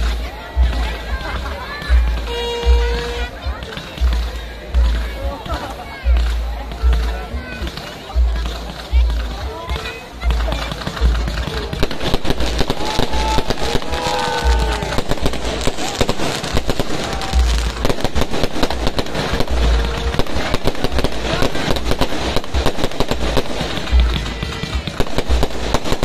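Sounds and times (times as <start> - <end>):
deep fireworks booms: 0.0 - 26.0
fireworks bangs and crackles: 0.0 - 26.0.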